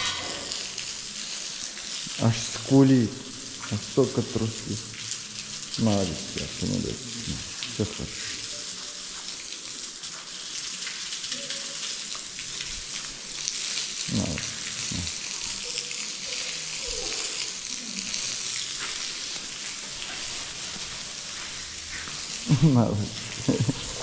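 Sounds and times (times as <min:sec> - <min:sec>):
water spraying from a hose: 0:00.0 - 0:24.0.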